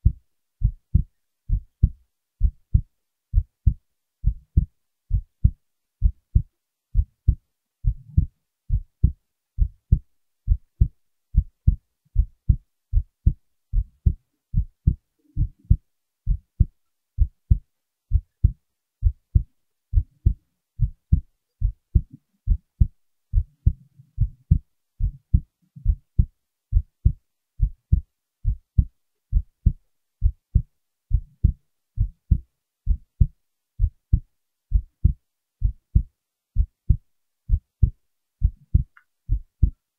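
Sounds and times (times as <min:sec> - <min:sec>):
heartbeat thumps: 0:00.0 - 0:39.8.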